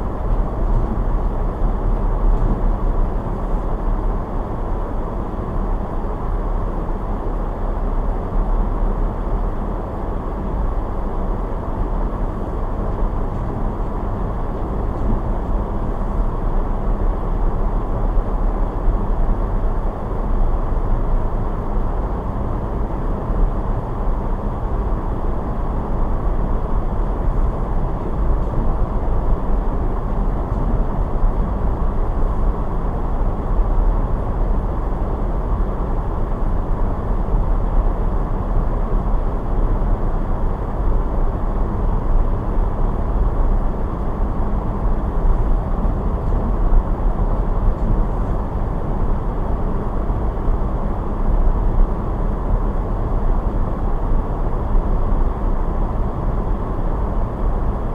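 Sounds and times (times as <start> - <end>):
car engine and tyre noise: 0.0 - 57.9.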